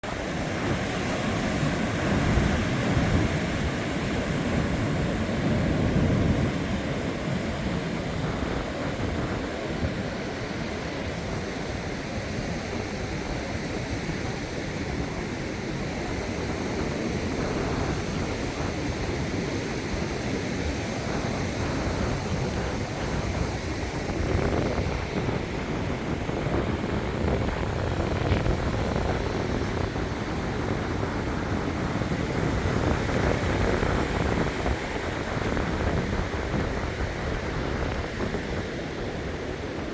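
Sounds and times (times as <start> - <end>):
waves washing onto sand: 0.0 - 39.9.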